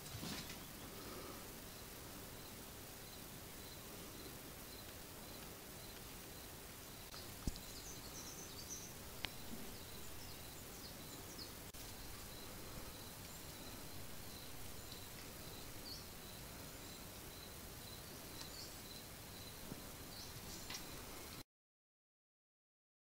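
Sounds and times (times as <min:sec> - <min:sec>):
steady hiss: 0:00.0 - 0:21.4.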